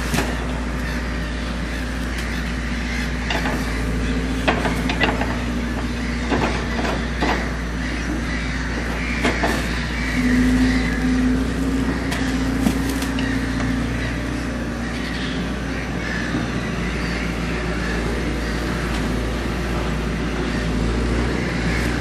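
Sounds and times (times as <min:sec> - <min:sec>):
excavator diesel engine and hydraulics: 0:00.0 - 0:22.0.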